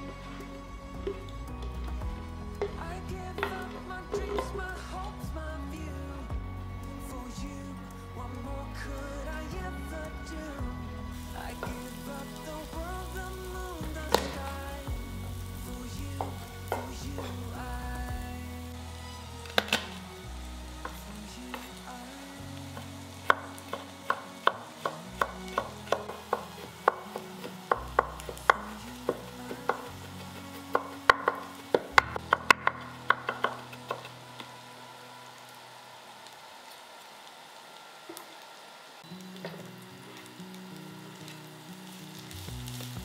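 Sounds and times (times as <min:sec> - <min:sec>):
food sizzling in a pan: 0:07.2 - 0:43.0.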